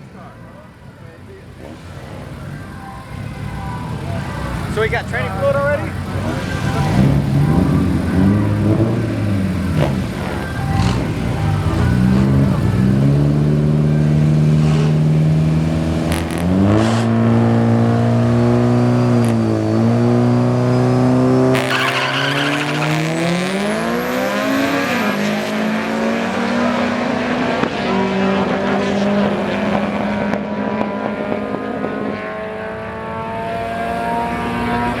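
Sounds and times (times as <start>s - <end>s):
turbocharged engine revving: 0.0s - 35.0s.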